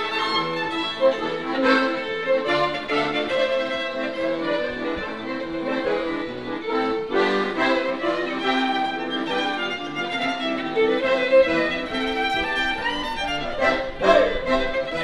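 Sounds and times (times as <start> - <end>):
accordion playing: 0.0 - 15.0
violin melody: 0.0 - 15.0.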